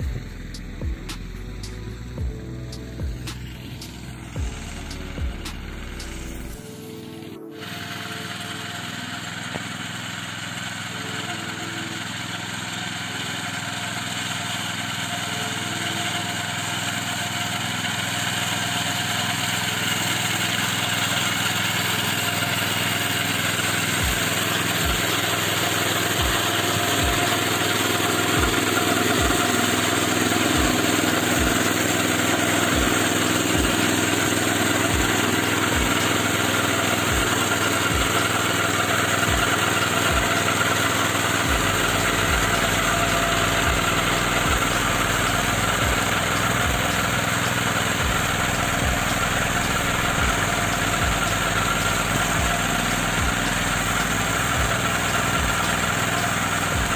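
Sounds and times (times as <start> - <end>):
mower cutting grass: 0.0 - 56.9
petrol engine running: 0.0 - 56.9.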